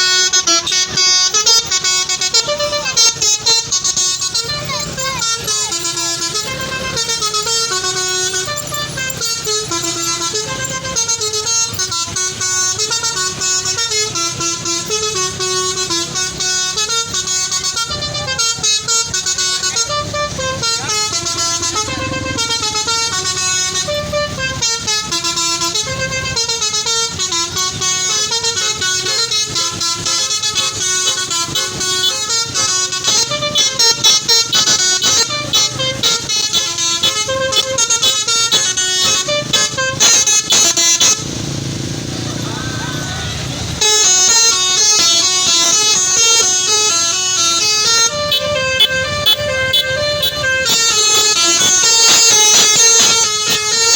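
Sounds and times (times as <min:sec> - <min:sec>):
low road noise rumble: 0:00.0 - 0:53.9
multi-tone bus horn melody: 0:00.0 - 0:53.9.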